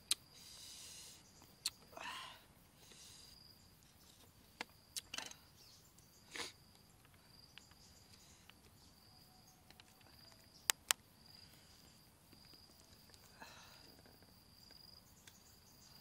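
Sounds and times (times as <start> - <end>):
faint high insect chirp: 0.0 - 16.0.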